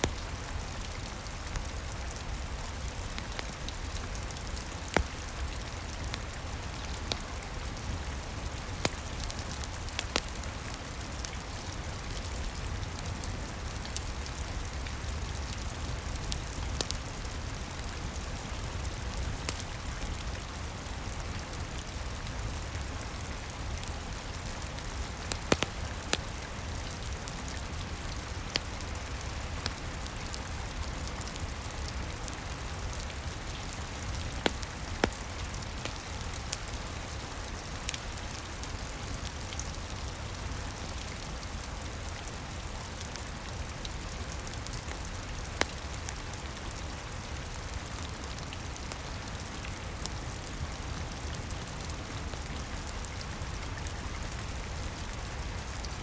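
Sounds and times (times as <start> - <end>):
rain on a roof: 0.0 - 56.0
wood fire crackling: 0.0 - 56.0.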